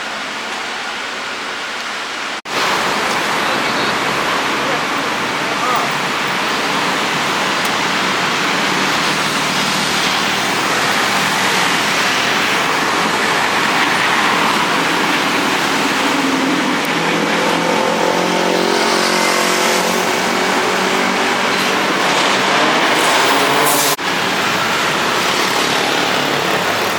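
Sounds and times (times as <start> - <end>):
cars driving past: 2.5 - 26.9.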